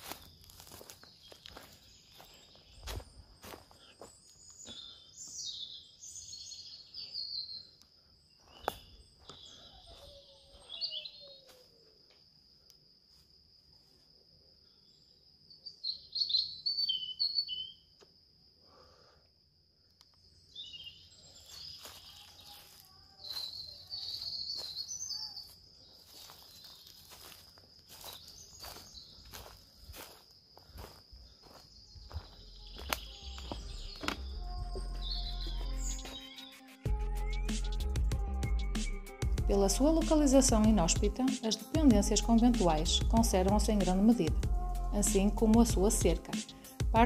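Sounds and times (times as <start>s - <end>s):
small birds chirping: 0.0s - 12.8s, 14.5s - 19.1s, 19.8s - 47.0s
high-pitched insect trill: 0.0s - 47.0s.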